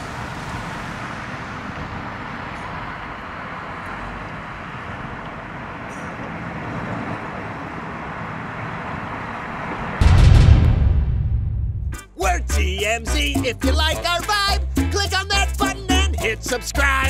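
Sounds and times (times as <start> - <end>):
road traffic rush: 0.0 - 17.0.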